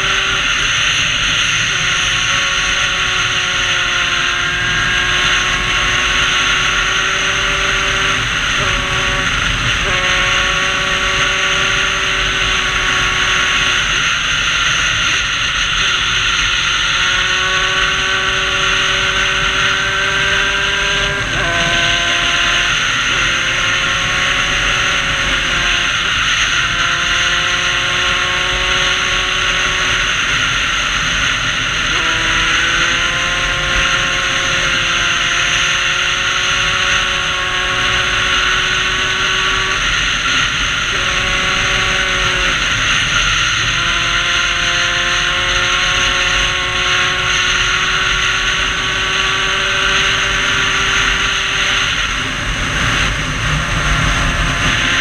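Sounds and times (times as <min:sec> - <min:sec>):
two-stroke engine running under load: 0:00.0 - 0:55.0.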